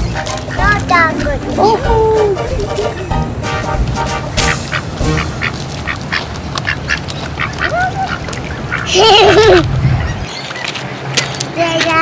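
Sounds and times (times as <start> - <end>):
ducks quacking: 0.0 - 10.8.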